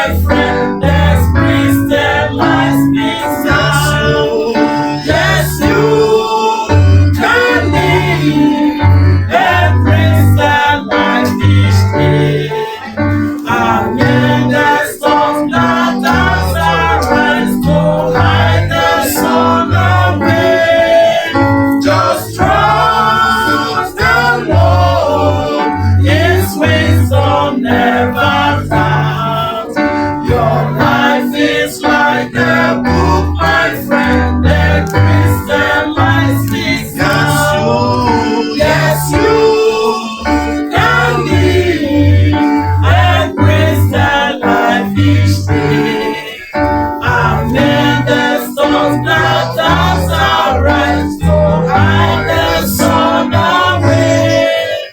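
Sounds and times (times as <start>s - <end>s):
choir singing gospel song: 0.0s - 54.9s
instrumental accompaniment: 0.0s - 54.9s.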